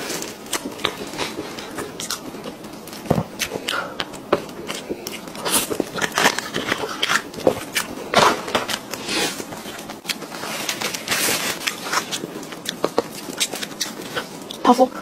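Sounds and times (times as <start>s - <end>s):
mouth clicks and chewing: 0.2s - 10.3s, 11.6s - 15.0s.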